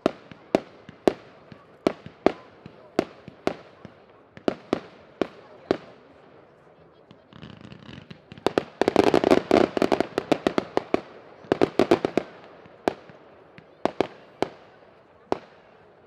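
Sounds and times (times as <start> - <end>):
fireworks bangs: 0.0 - 6.4, 7.0 - 15.8.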